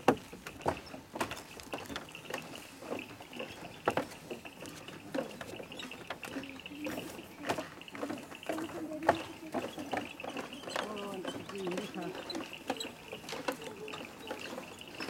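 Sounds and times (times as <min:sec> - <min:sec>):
footsteps on wooden planks: 0:00.0 - 0:15.0.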